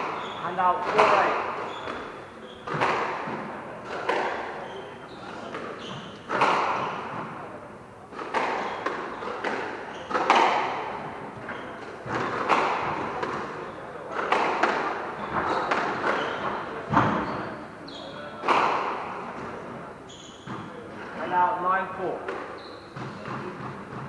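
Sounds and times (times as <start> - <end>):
squash ball struck by racket: 0.0 - 4.7, 5.5 - 7.5, 8.1 - 17.4, 18.4 - 19.7, 20.4 - 20.8, 22.3 - 24.0
shoes squeaking on wooden floor: 0.0 - 7.4, 8.4 - 13.8, 15.2 - 18.3, 19.4 - 21.4, 22.3 - 24.0.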